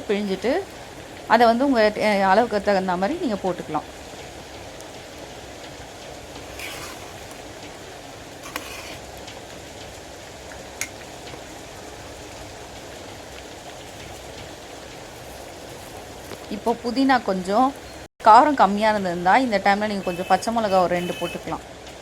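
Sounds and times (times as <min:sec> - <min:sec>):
water boiling in a pot: 0:00.0 - 0:22.0.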